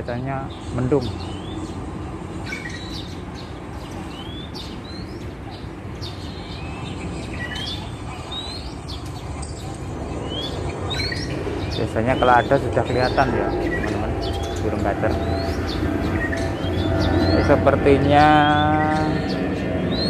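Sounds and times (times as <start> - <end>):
birds chirping: 0.0 - 20.0
low background hum: 0.0 - 20.0.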